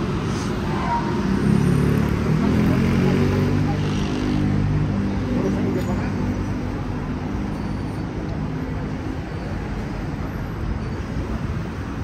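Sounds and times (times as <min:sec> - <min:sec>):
tyres on road: 0:00.0 - 0:12.0
vehicle engines running: 0:00.0 - 0:12.0.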